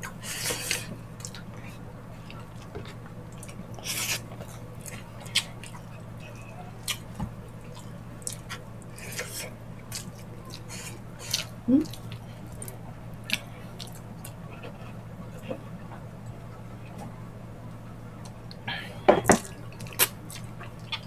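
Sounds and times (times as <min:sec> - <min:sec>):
wet chewing of stew: 0:00.0 - 0:15.5, 0:19.4 - 0:21.0
steady low hum: 0:00.0 - 0:21.0.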